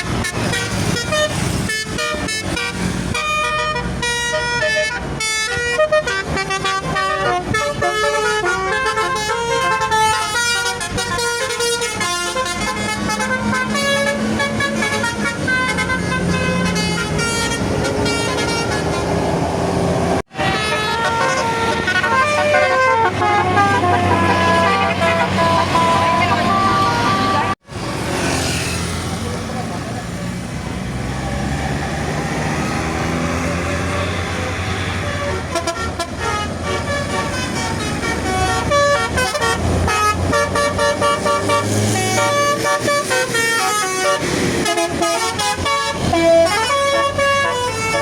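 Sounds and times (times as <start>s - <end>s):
musical bus horn playing a tune: 0.0s - 19.4s, 20.3s - 27.6s, 33.2s - 48.0s
bus engine running: 0.0s - 48.0s.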